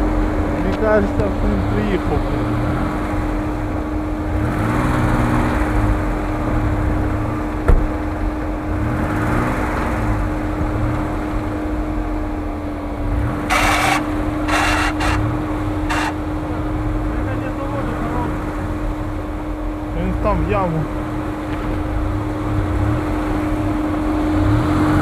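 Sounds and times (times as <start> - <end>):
vehicle engine labouring: 0.0 - 25.0.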